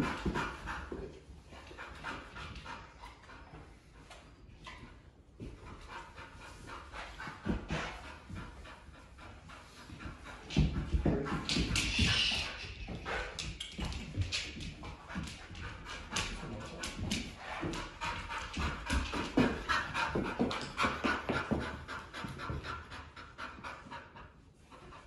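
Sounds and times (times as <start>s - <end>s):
dog panting hard: 0.0s - 25.0s.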